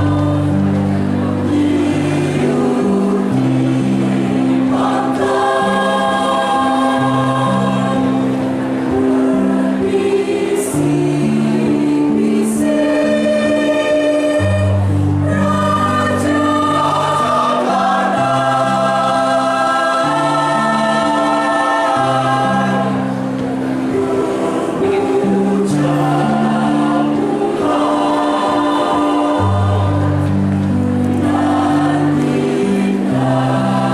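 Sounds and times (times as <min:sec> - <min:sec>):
choir singing in harmony: 0:00.0 - 0:33.9.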